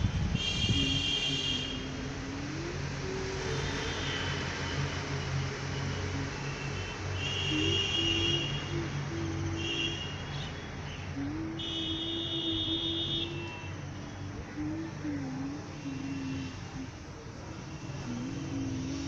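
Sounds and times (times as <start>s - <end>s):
motor vehicles running: 0.0s - 19.0s.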